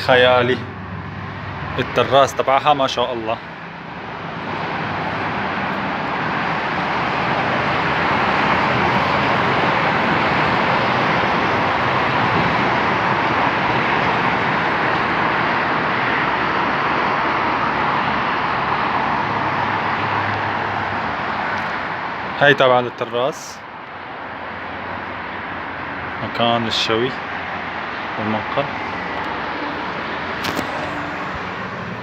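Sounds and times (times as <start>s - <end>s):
steady outdoor rushing noise: 0.0s - 32.0s.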